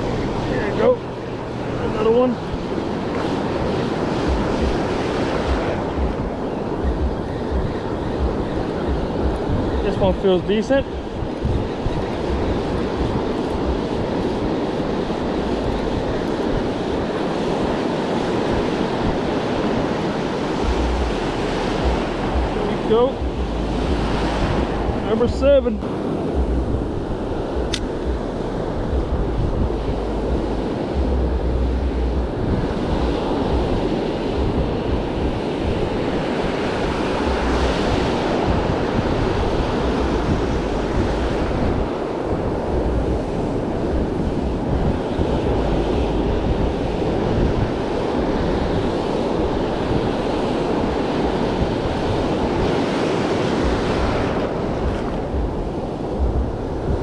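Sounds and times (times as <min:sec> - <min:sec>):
ocean surf on beach: 0:00.0 - 0:57.0
wind buffeting microphone: 0:00.0 - 0:57.0.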